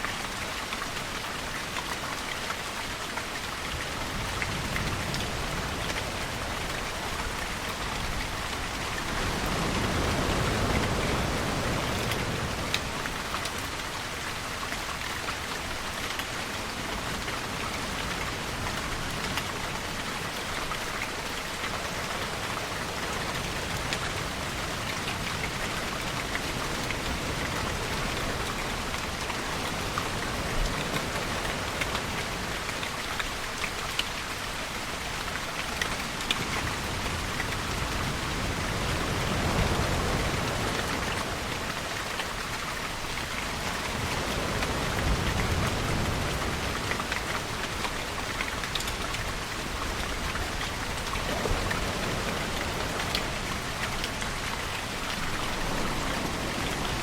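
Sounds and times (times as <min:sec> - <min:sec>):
raindrops ticking on a surface: 0:00.0 - 0:57.0
steady rainfall: 0:00.0 - 0:57.0.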